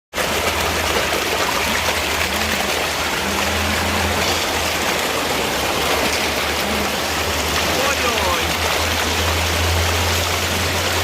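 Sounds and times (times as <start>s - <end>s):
running water rushing: 0.1s - 11.0s.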